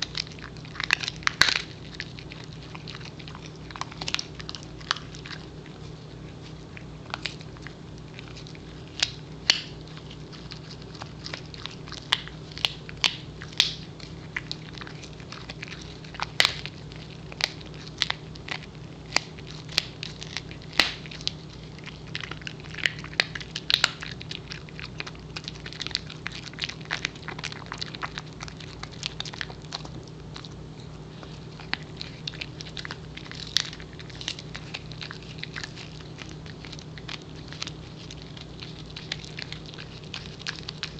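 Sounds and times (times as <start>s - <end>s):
dog gnawing on a hard chew: 0.0s - 40.9s.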